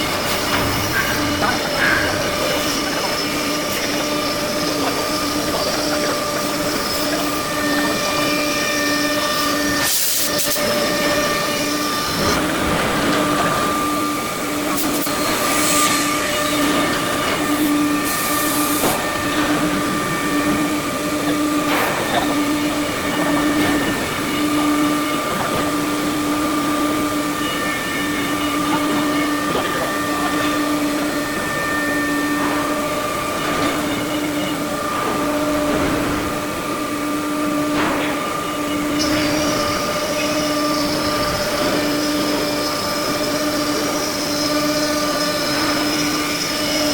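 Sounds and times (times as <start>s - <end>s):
higher machine whine: 0.0s - 46.9s
machine hum with whine: 0.0s - 46.9s.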